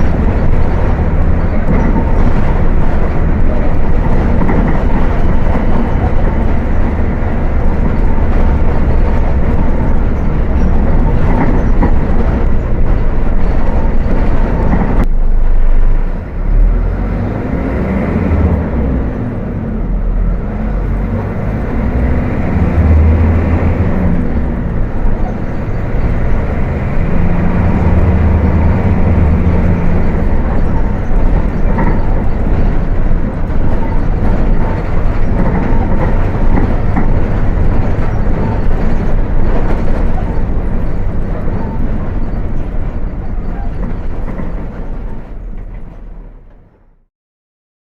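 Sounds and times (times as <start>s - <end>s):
bus diesel engine rumbling: 0.0s - 47.1s.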